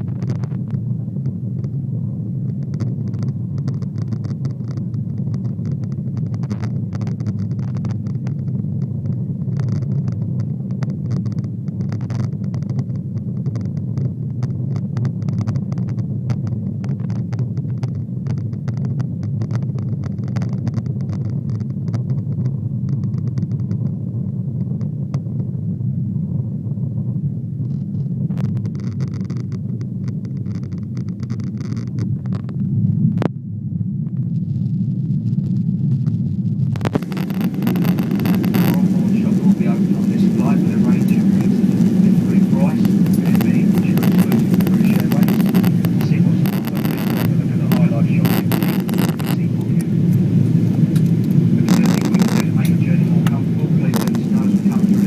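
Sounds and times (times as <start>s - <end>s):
light clicks and rattles: 0.0s - 1.8s, 2.4s - 24.0s, 27.6s - 32.6s, 36.8s - 55.0s
airplane cabin engine rumble: 0.0s - 55.0s.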